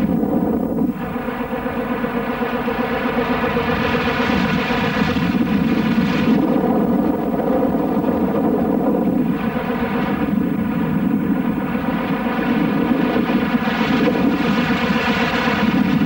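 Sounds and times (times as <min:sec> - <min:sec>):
plane engine and propeller droning: 0:00.0 - 0:16.0.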